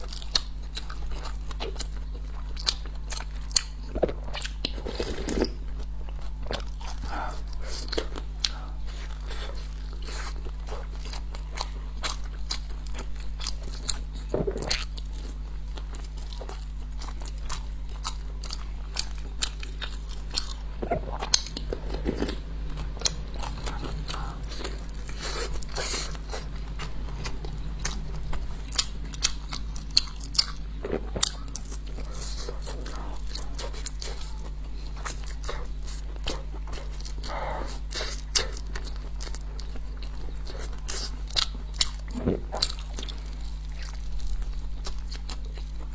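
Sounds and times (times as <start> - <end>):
chewing and crunching food: 0.0 - 45.9
low electrical hum: 0.0 - 45.9.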